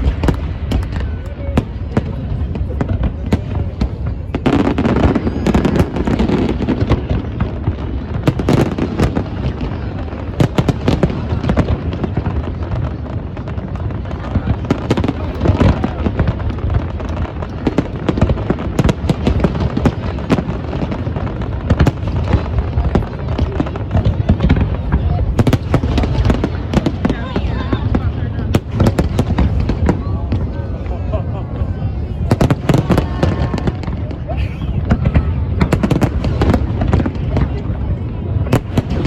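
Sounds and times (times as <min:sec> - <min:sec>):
fireworks bangs and crackling pops: 0:00.0 - 0:39.0.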